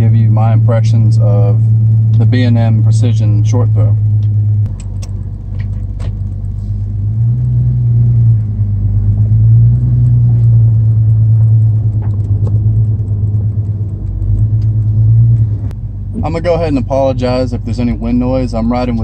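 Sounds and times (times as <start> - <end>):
car engine drone from cabin: 0.0 - 19.0.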